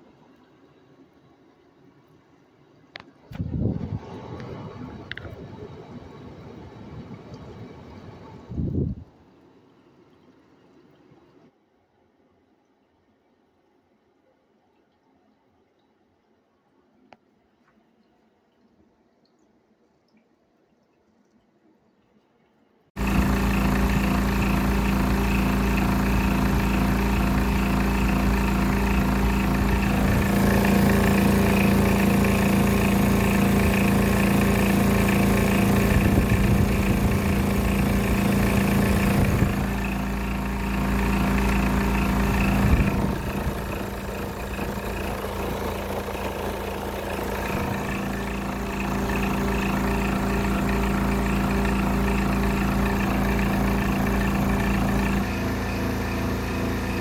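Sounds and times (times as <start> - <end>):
air conditioner humming with wobbling pulse: 0.0 - 20.0, 20.6 - 57.0.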